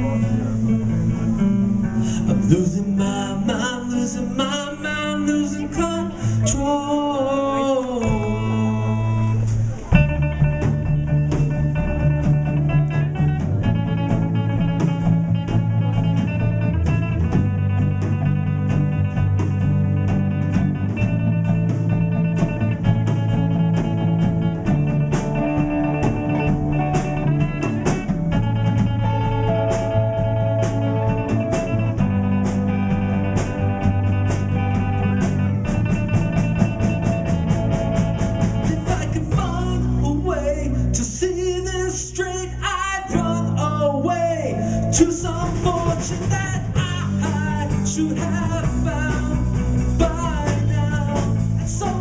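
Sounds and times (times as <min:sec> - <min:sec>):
live rock band: 0:00.0 - 0:52.0.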